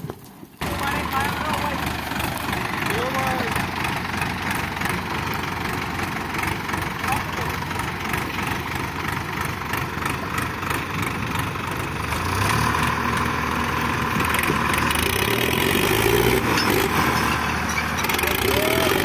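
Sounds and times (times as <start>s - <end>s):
tractor diesel engines under load: 0.0s - 19.0s.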